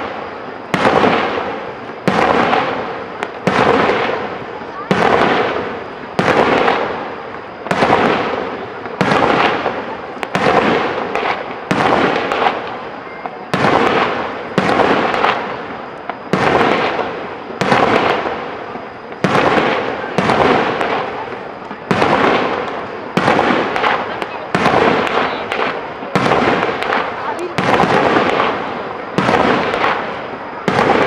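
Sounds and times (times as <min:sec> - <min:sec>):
crackling firework tails: 0:00.0 - 0:31.0.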